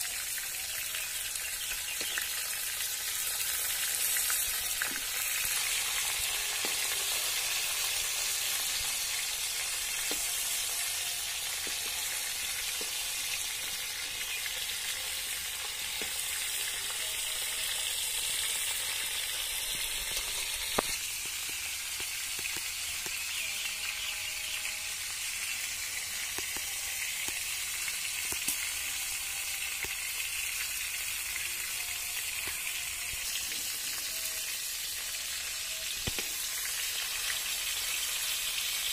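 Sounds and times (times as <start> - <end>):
fish sizzling in hot oil: 0.0 - 38.9.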